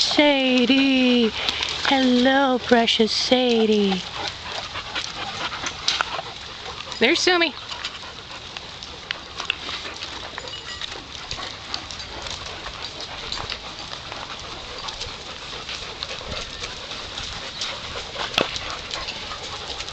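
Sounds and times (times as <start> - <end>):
dog clicks and snuffling: 0.4 - 19.9.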